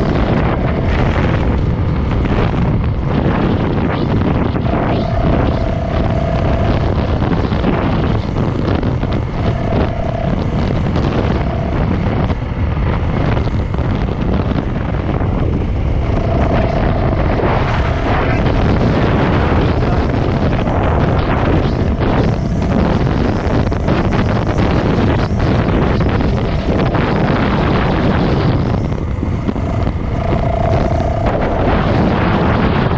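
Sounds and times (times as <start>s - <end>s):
dirt bike engine running: 0.0s - 32.9s
wind buffeting microphone: 0.0s - 32.9s.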